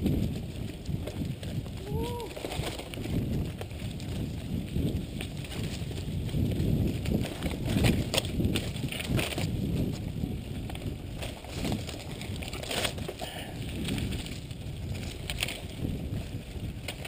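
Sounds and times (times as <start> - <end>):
bicycle knocking over bumps: 0.0 - 17.0
bicycle tyres rumbling on dirt: 0.0 - 17.0.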